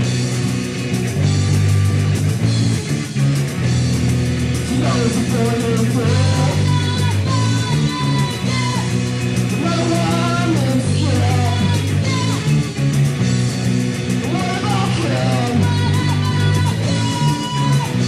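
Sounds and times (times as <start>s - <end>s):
punk rock band playing: 0.0s - 18.0s
wavering guitar lead line: 0.0s - 18.0s.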